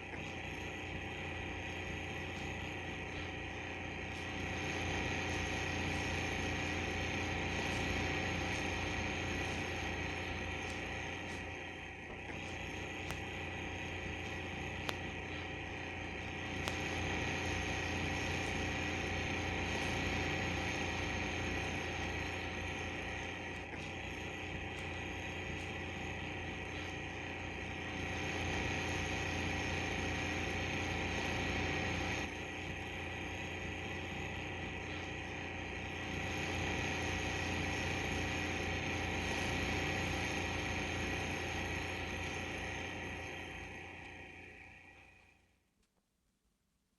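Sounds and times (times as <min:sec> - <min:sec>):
movie projector whirring: 0:00.0 - 0:45.6.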